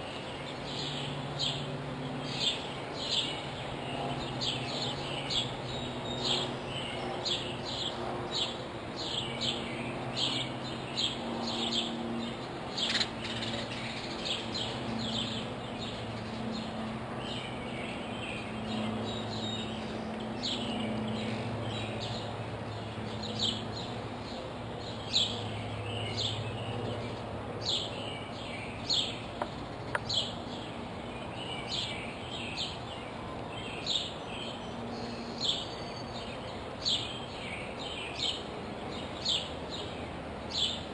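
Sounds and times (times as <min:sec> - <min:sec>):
low steady hum: 0:00.0 - 0:40.9
songbirds chirping: 0:00.0 - 0:40.9.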